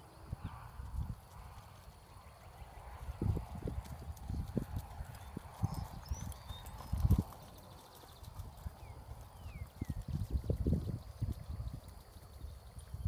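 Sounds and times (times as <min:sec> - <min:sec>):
hoofbeats cantering on grass: 0:00.0 - 0:13.0.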